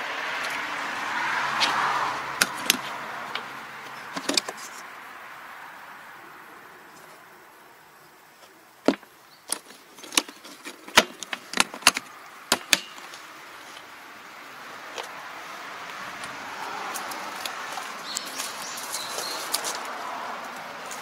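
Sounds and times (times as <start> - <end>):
soft rustling hiss: 1.6 - 21.0.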